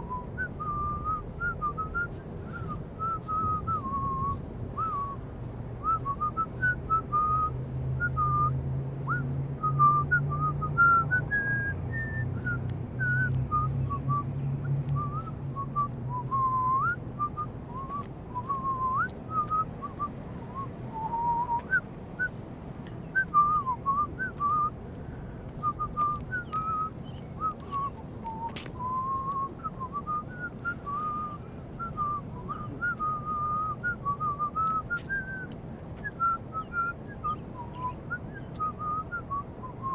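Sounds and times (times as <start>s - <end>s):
person whistling a tune: 0.0s - 5.2s, 5.8s - 14.3s, 15.0s - 22.3s, 23.2s - 24.8s, 25.6s - 39.9s
low hum: 0.0s - 39.9s.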